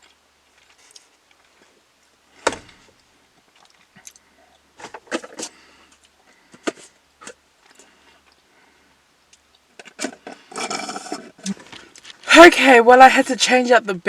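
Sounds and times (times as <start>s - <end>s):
rustling: 0.0s - 12.3s.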